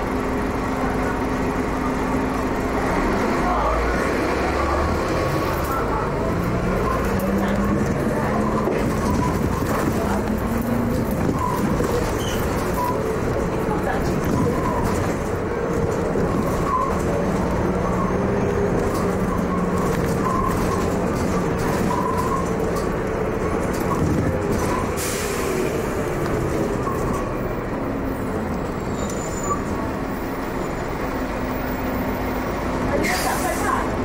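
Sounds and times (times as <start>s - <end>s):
bus diesel engine running: 0.0s - 34.0s.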